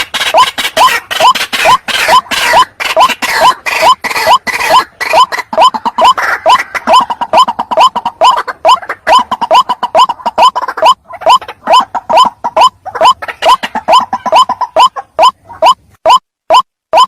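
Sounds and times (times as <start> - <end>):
waterhen calling rapid rising notes: 0.0 - 17.0.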